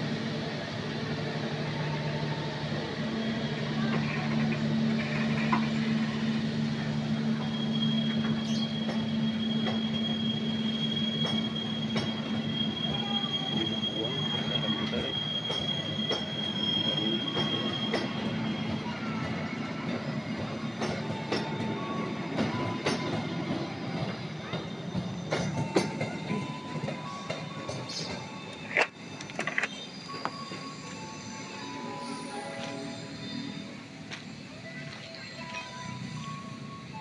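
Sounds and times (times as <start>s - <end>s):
train wheels rumbling and clicking: 0.0s - 37.0s
high wheel squeal: 1.7s - 37.0s.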